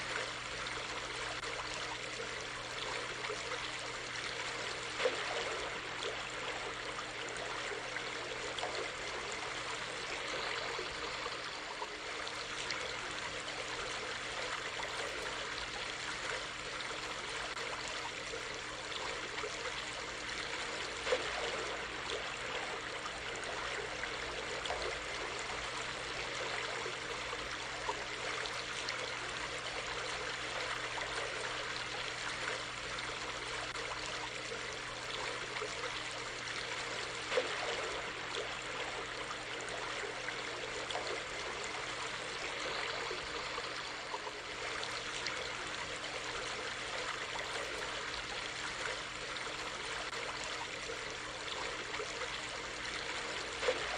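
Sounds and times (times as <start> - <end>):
stream water running over rocks: 0.0 - 53.9
water splashes: 0.0 - 53.9.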